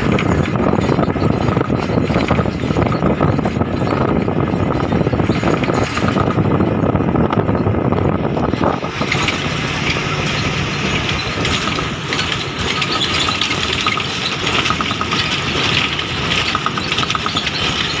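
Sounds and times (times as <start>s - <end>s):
road vehicle running noise: 0.0s - 18.0s.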